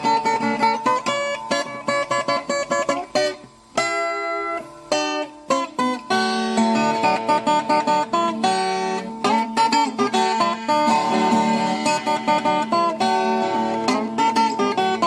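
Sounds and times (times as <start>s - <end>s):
plucked guitar-like strings: 0.0s - 15.0s.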